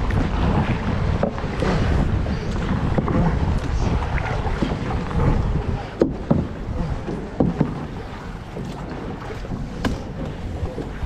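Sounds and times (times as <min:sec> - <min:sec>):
kayak paddle strokes in water: 0:00.0 - 0:11.0
wind rumble on microphone: 0:00.0 - 0:11.0.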